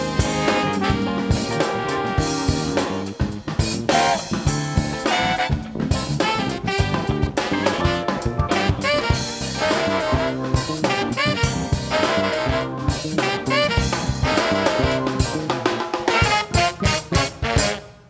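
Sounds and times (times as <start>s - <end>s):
horn section with saxophone: 0.0s - 3.2s, 3.9s - 18.0s
bass: 0.0s - 18.0s
drum kit: 0.0s - 18.0s
piano: 0.0s - 18.0s.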